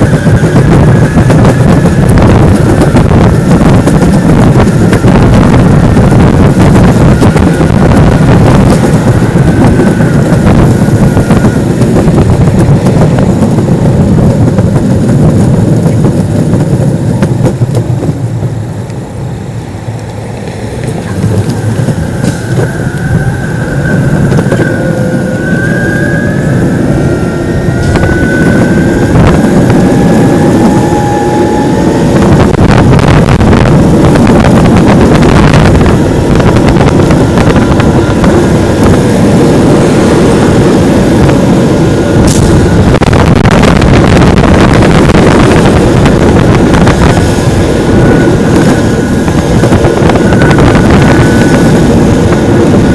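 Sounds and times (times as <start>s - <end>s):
thin whine gliding in pitch: 0.0s - 52.9s
wind buffeting microphone: 0.0s - 52.9s.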